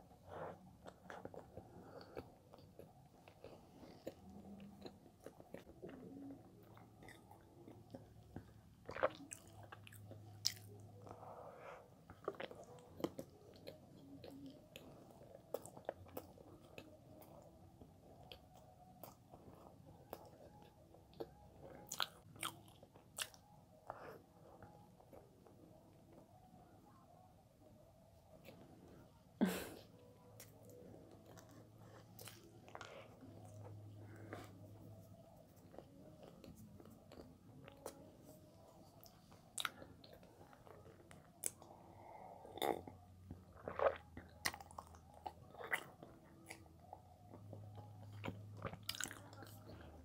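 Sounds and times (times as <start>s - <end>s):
chewing and biting bread: 0.4s - 11.2s, 12.1s - 25.6s, 30.4s - 38.0s, 39.0s - 41.8s, 42.4s - 50.0s.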